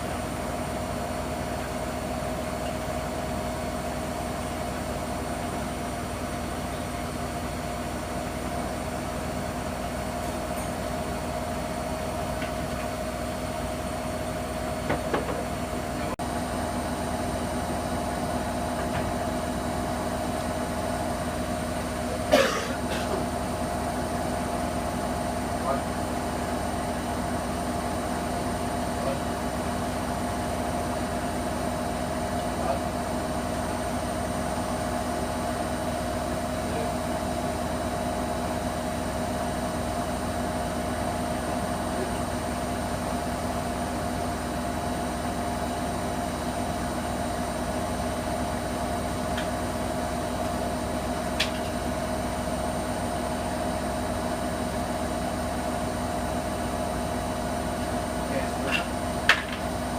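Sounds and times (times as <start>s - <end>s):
washer dryer humming: 0.0s - 59.9s.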